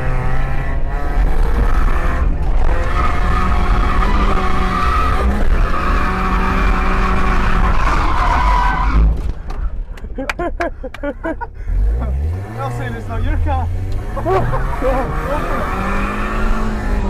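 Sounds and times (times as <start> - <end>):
car engine at high revs: 0.0 - 9.3, 10.4 - 17.0.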